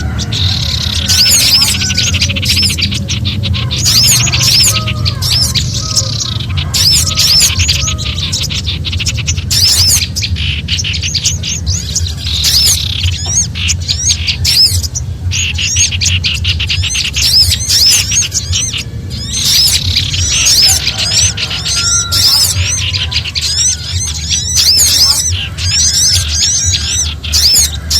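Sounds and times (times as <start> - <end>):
low steady rumble: 0.0 - 27.9
songbirds alarm chatter: 0.0 - 27.9.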